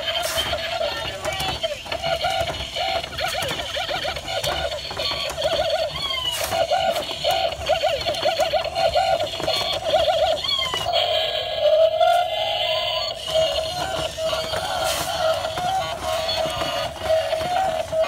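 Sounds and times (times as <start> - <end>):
tinny synthesized toy music: 0.0 - 18.0.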